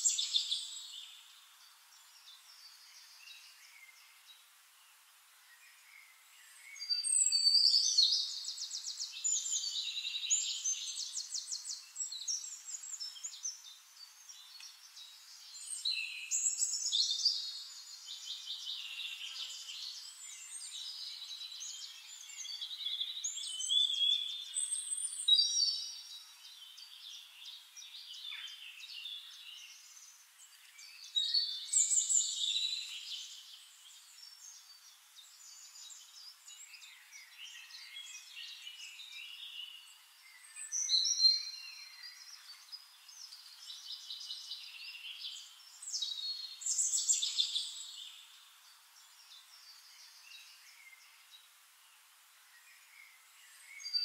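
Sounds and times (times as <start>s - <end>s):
songbirds trilling and chirping: 0.0s - 54.0s.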